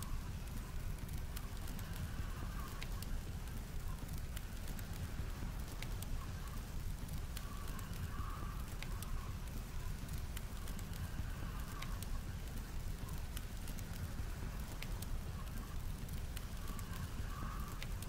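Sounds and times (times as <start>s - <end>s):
campfire crackling: 0.0s - 18.0s
low rumble of wind: 0.0s - 18.0s.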